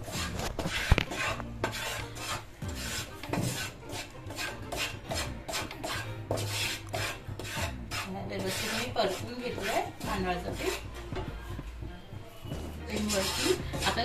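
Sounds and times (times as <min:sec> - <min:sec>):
wooden spatula scraping flour in pan: 0:00.0 - 0:11.1, 0:12.7 - 0:14.0.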